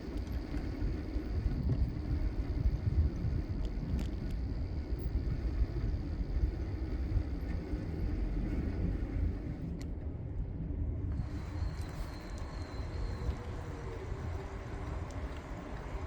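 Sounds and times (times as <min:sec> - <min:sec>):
bicycle road noise: 0:00.0 - 0:16.0.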